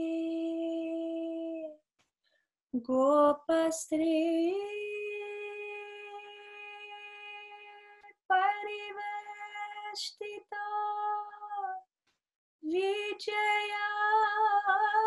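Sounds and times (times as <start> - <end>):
woman singing unaccompanied: 0.0 - 1.8, 2.8 - 11.8, 12.6 - 15.0.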